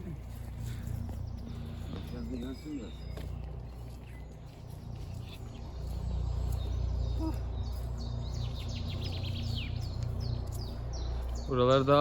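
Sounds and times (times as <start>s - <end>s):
pulsing low drone: 0.0s - 12.0s
wild birds chirping: 0.0s - 12.0s.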